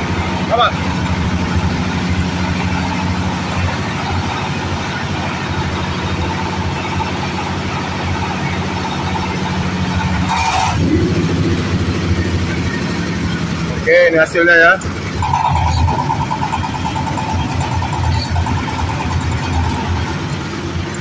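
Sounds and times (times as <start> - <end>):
engine-driven thresher running: 0.0 - 21.0.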